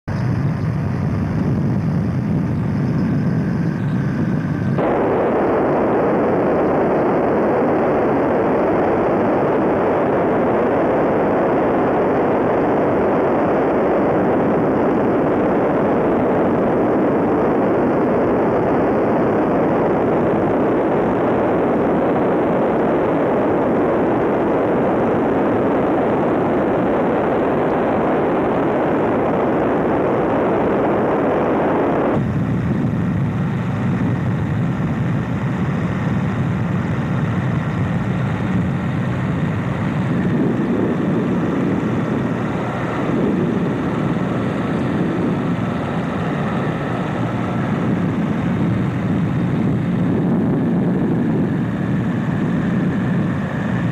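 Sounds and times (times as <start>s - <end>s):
biplane engine and propeller drone: 0.0s - 53.9s
rushing wind: 0.0s - 53.9s.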